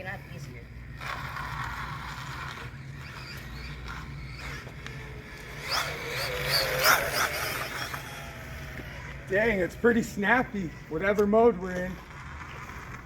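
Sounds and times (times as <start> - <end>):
electric motor whirring: 0.0 - 11.2.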